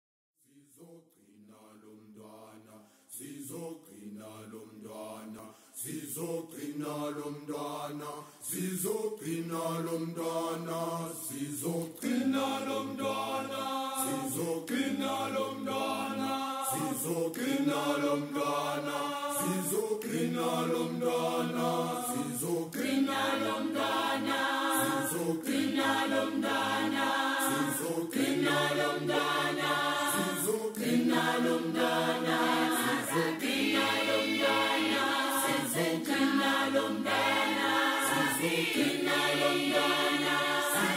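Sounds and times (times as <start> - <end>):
choral chant: 0.4 - 40.9.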